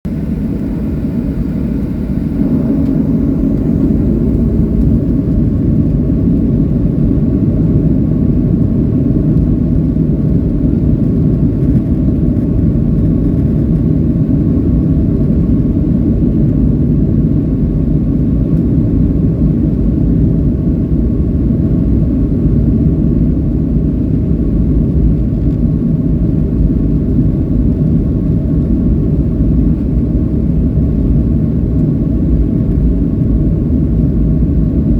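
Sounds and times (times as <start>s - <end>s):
jet engines rumbling: 0.0s - 34.9s.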